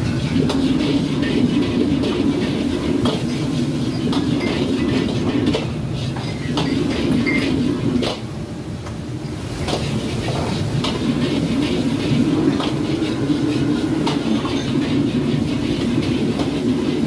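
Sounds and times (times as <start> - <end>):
wok burner roar: 0.0 - 17.0.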